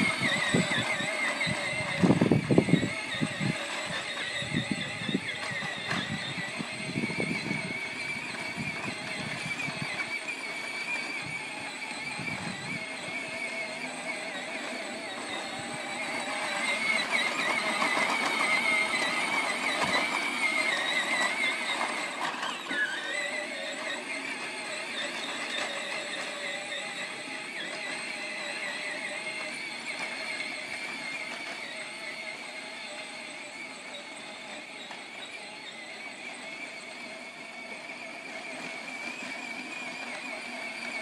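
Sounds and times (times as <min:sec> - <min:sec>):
toy tractor electric motor whining: 0:00.0 - 0:41.0.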